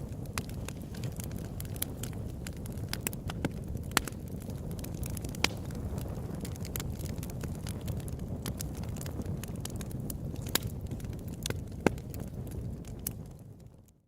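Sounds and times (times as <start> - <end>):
loud sharp fire pops: 0.0 - 13.4
campfire crackling and popping: 0.0 - 14.0.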